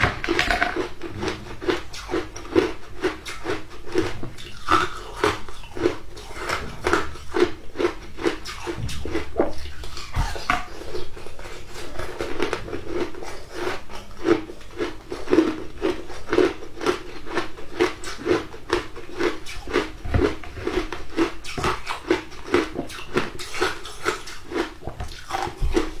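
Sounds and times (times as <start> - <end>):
ice being chewed: 0.0 - 26.0.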